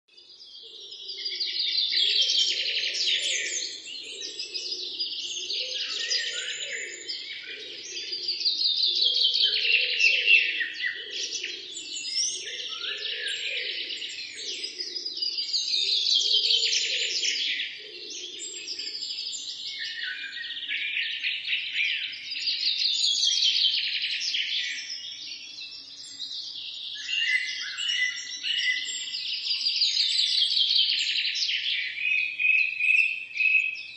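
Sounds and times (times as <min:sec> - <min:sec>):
songbird trilling and chirping: 0:00.1 - 0:33.9.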